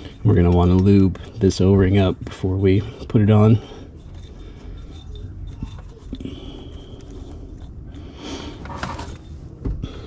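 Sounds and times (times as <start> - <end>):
light clicks and scrapes: 0.0 - 10.0
low steady hum: 0.0 - 10.0.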